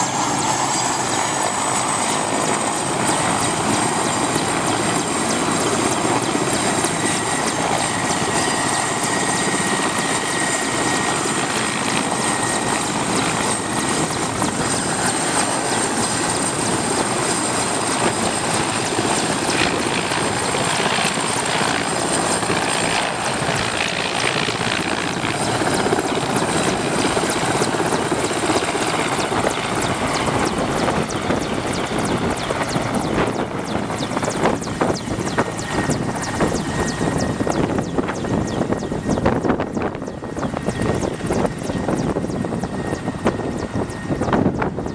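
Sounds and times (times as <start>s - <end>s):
helicopter engines and rotor: 0.0s - 44.9s
high turbine whine: 0.0s - 44.9s.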